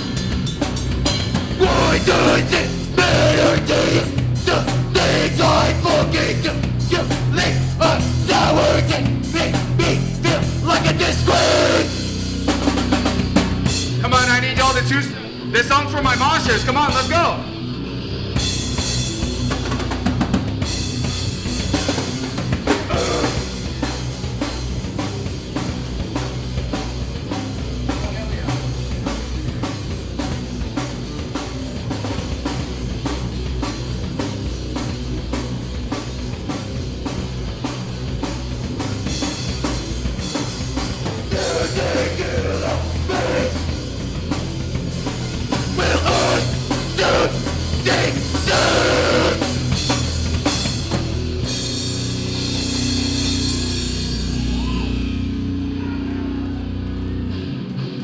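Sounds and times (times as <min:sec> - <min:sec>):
heavy rock band playing: 0:00.0 - 0:58.0.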